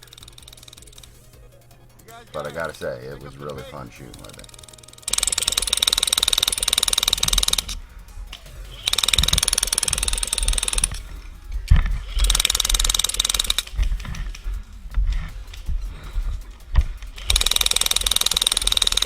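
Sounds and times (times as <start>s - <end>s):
airsoft minigun firing rapid bursts: 0.0s - 19.0s.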